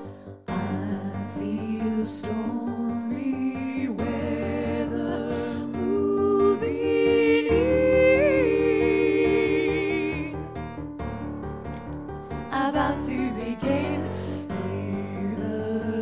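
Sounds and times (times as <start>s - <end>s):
piano chords: 0.0s - 16.0s
choir singing: 0.5s - 10.6s, 12.5s - 16.0s.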